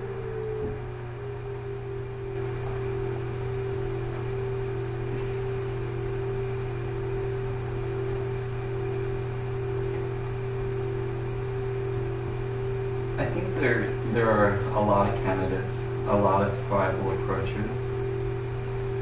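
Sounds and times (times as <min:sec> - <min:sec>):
low drone: 0:00.0 - 0:11.6, 0:12.4 - 0:19.0
constant mid-pitched tone: 0:00.0 - 0:19.0.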